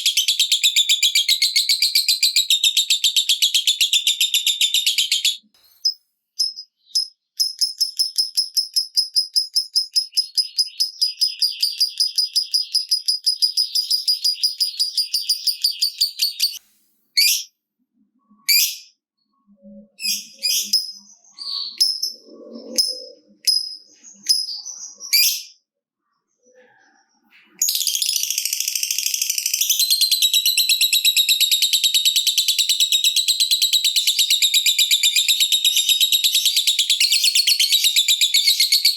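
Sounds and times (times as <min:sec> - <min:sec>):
lovebird chirps and calls: 0:00.0 - 0:16.6, 0:17.2 - 0:17.5, 0:18.3 - 0:19.0, 0:19.6 - 0:25.6, 0:26.2 - 0:38.9.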